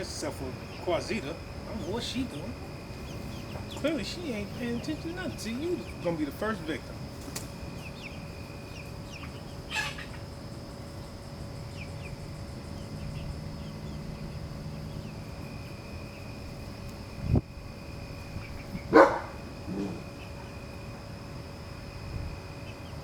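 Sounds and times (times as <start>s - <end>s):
chickens peeping and clucking: 0.0s - 23.0s
high insect-like drone: 0.0s - 23.0s.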